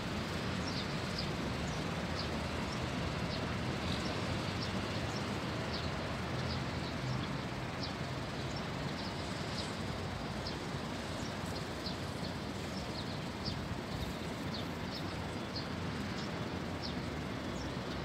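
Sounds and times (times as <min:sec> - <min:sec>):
small bird chirping: 0:00.6 - 0:18.0.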